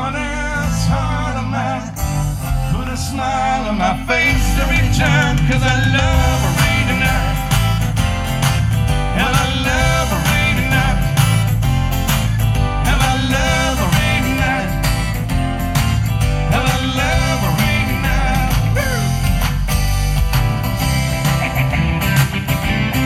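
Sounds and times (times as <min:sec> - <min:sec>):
acoustic guitar: 0:00.0 - 0:23.0
electric bass: 0:00.0 - 0:23.0
backing beat: 0:04.2 - 0:23.0.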